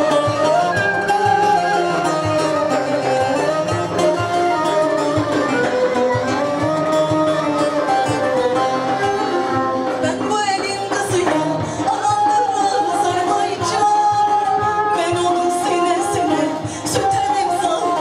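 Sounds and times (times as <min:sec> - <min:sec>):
hand drum beat: 0:00.0 - 0:18.0
plucked lute melody: 0:00.0 - 0:18.0.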